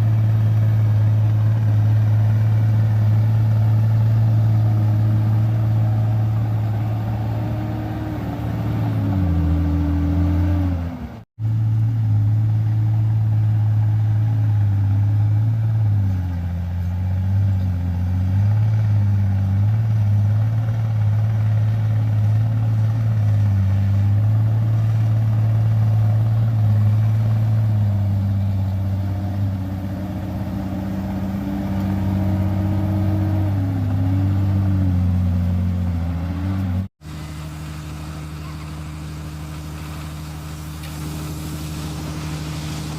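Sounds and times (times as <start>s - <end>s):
bulldozer diesel engine under load: 0.0s - 42.9s.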